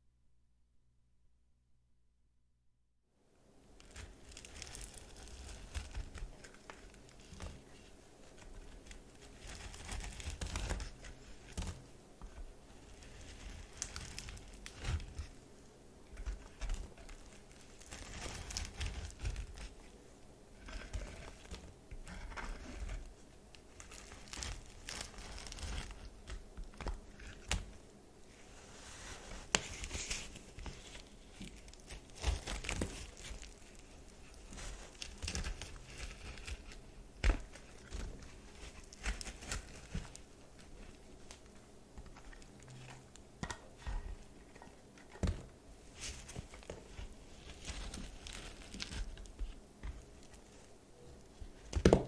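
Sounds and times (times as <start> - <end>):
brittle soap crackling and crunching: 3.8 - 27.9, 28.6 - 52.0.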